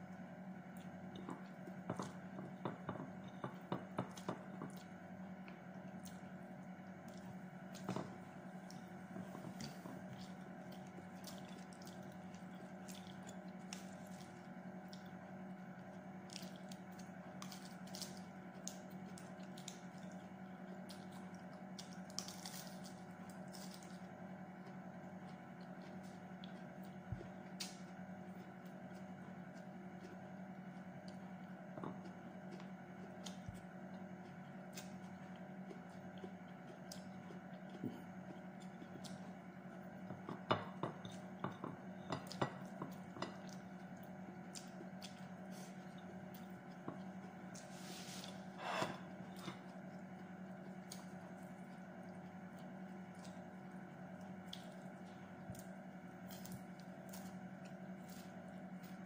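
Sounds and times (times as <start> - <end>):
steady low hum: 0.0 - 59.0
wet chewing: 3.2 - 40.3, 41.0 - 59.0.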